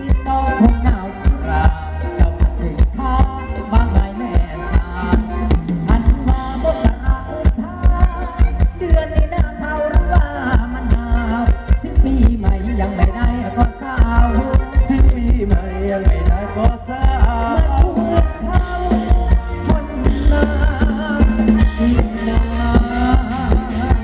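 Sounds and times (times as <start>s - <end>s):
live band dance music: 0.0s - 24.0s
bass drum thumps: 0.1s - 24.0s.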